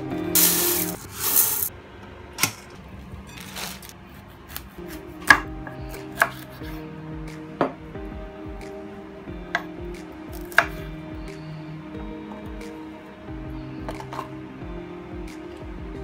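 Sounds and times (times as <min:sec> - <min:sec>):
soft background music: 0:00.0 - 0:01.8, 0:02.7 - 0:16.0.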